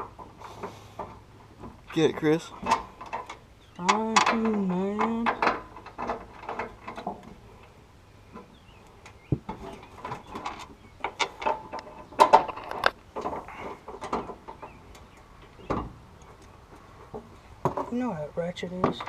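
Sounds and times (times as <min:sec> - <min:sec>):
hand tools clanking and clicking: 0:00.0 - 0:07.8, 0:08.4 - 0:18.0.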